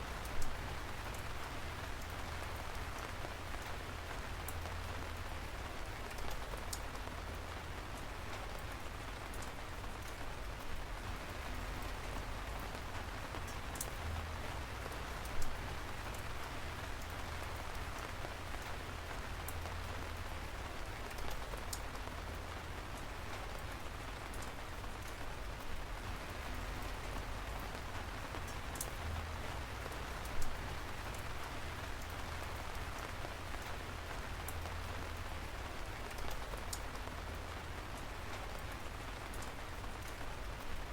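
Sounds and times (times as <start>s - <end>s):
rain falling: 0.0s - 40.9s
raindrops ticking: 0.0s - 40.9s.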